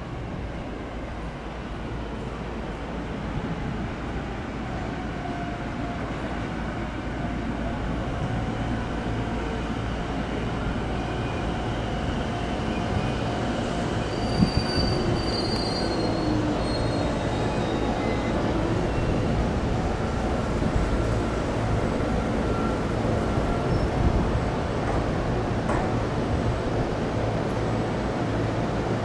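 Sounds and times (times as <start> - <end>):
electric train rumbling: 0.0 - 29.0.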